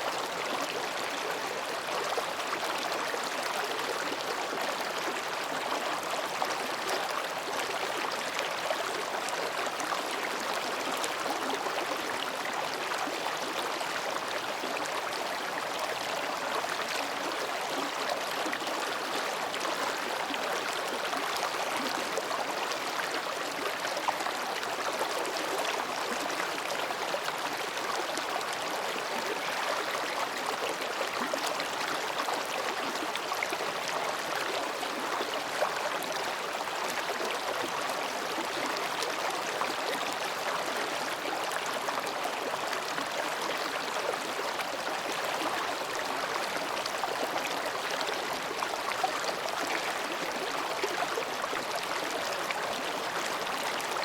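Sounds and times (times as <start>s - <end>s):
mountain stream babbling over rocks: 0.0s - 54.0s.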